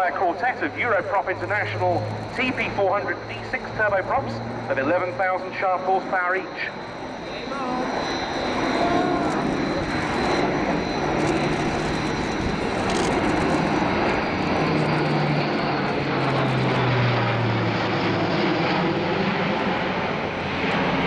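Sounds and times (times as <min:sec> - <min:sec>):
low propeller drone: 0:00.0 - 0:21.0
propeller aircraft roar: 0:00.0 - 0:21.0.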